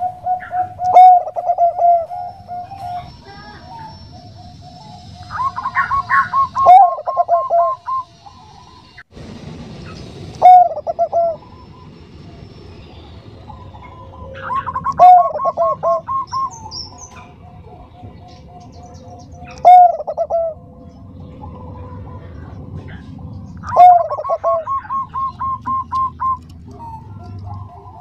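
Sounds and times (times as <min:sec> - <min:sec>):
dove cooing: 0:00.0 - 0:08.8, 0:10.0 - 0:11.9, 0:13.1 - 0:28.0
faint dove notes: 0:00.0 - 0:28.0.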